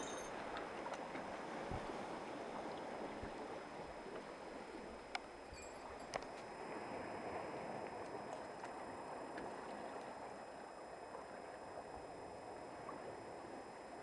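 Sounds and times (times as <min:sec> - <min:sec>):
sea water washing among rocks: 0:00.3 - 0:13.2.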